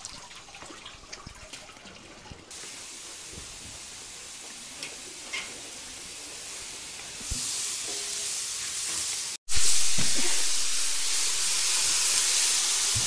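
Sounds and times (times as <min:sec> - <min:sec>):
vegetables sizzling in a pan: 0:02.5 - 0:13.0.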